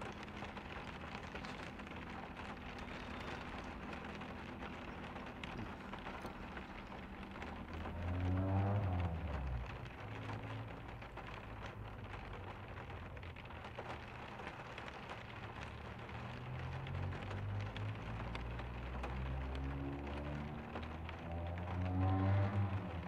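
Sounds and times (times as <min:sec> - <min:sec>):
rain on a truck roof: 0:00.0 - 0:23.0.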